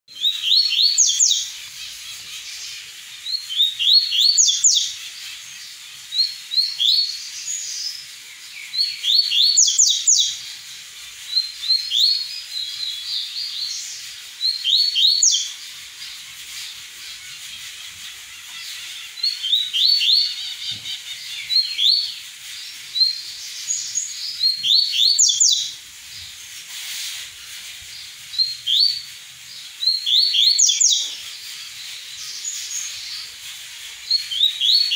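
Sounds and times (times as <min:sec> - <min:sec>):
seedeater bird singing: 0:00.1 - 0:34.9.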